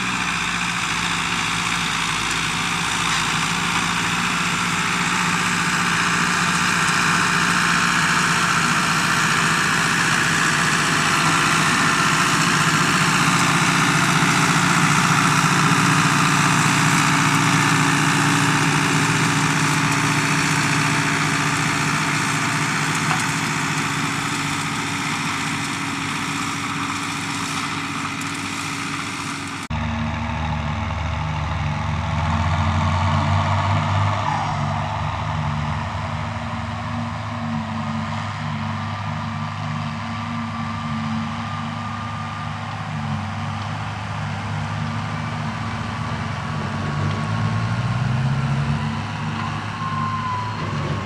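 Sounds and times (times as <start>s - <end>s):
deeper engine: 0.0s - 51.0s
tractor engine running: 0.0s - 51.0s.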